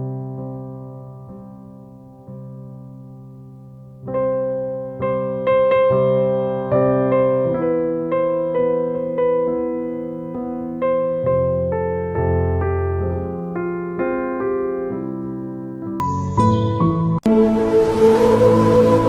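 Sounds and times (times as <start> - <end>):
slow piano notes: 0.0 - 19.0.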